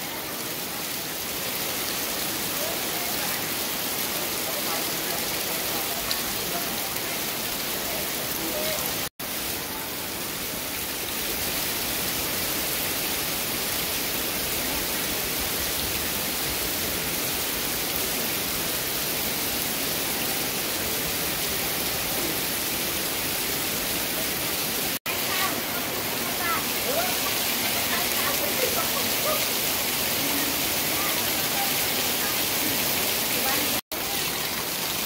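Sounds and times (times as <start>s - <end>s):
heavy rain on wet ground: 0.0s - 35.0s.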